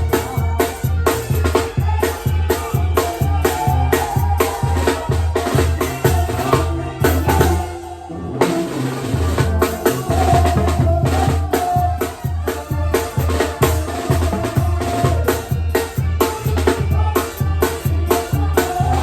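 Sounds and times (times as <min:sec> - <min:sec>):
band music with drums and bass: 0:00.0 - 0:19.0.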